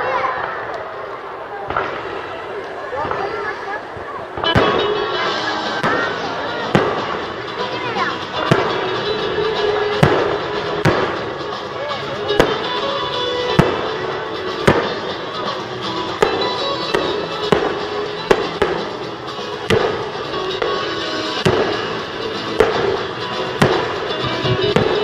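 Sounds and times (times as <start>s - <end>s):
fireworks bursting with bangs: 0.3s - 25.0s
background music: 4.4s - 25.0s.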